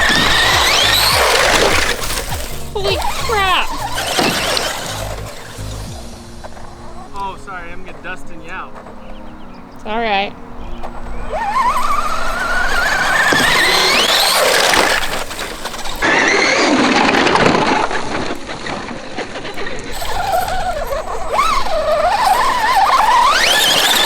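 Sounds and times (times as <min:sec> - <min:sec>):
electric motor whining: 0:00.0 - 0:24.0
tyres rushing on loose dirt: 0:00.0 - 0:24.0.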